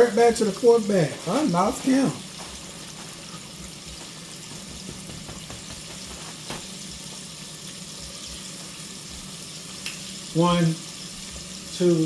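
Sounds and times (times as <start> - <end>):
chicken wings sizzling in oil: 0.0 - 12.0.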